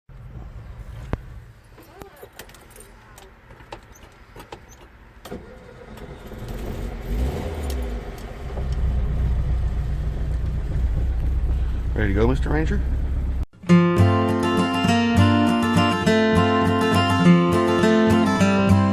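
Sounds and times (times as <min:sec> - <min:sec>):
van engine starting and running: 0:00.1 - 0:18.9.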